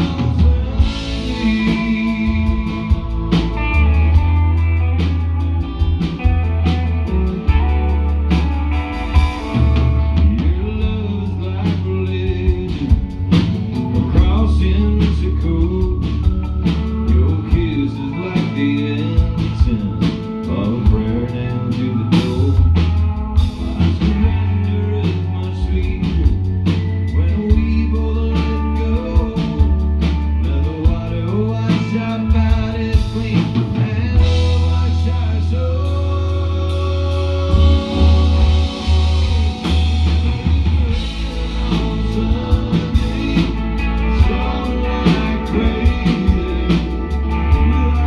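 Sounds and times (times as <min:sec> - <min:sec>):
drum kit beat: 0:00.0 - 0:48.0
electric bass: 0:00.0 - 0:48.0
electric guitar: 0:00.0 - 0:48.0
man singing: 0:00.0 - 0:48.0.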